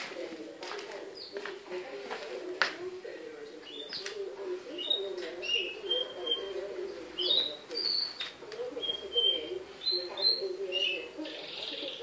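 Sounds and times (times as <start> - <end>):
small birds chirping: 0.2 - 2.0, 3.4 - 12.0.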